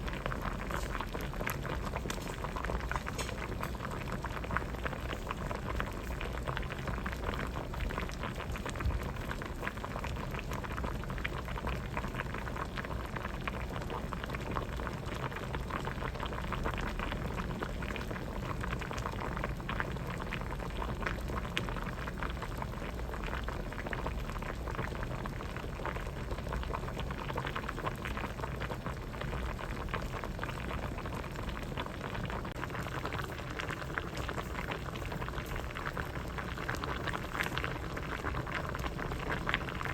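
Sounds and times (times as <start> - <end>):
soup boiling and bubbling: 0.0 - 39.9.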